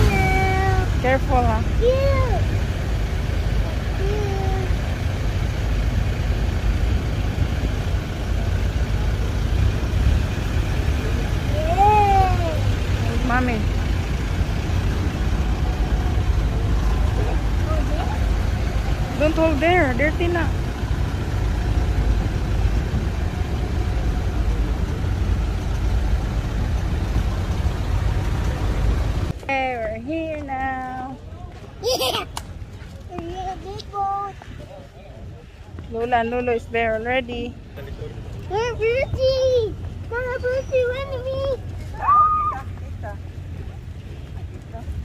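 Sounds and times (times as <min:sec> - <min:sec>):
ship engines rumbling: 0:00.0 - 0:45.0.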